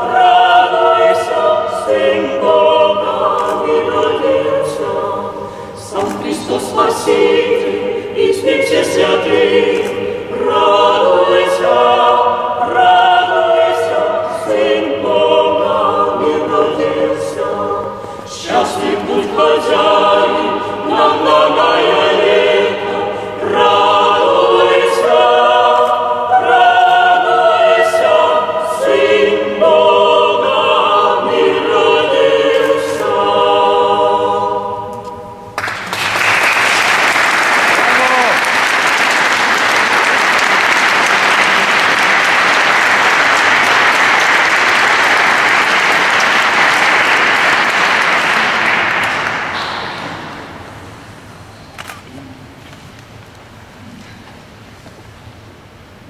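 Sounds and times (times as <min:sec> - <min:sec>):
choir singing a cappella: 0:00.0 - 0:35.6, 0:39.0 - 0:51.2.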